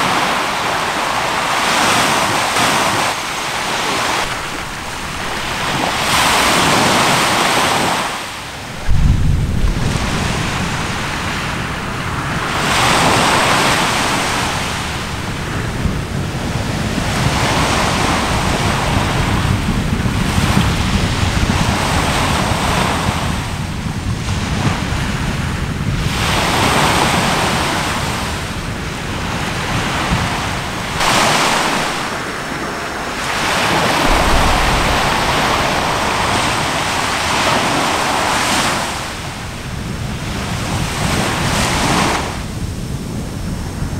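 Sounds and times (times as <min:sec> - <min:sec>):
sea surf washing in: 0:00.0 - 0:43.9
wind rumble on microphone: 0:00.0 - 0:43.9.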